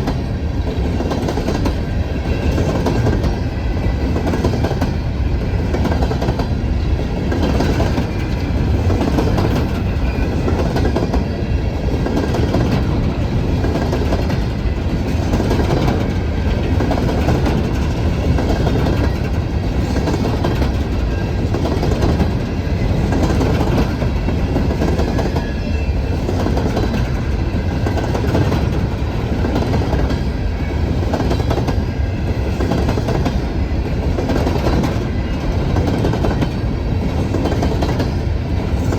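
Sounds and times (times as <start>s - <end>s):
clickety-clack over rail joints: 0.0s - 38.9s
train wheels rumbling on rail: 0.0s - 38.9s.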